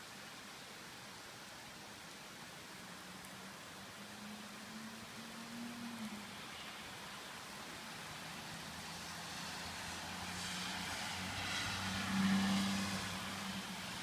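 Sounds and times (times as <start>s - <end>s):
rain hissing: 0.0s - 14.0s
car passing on wet road: 2.0s - 14.0s.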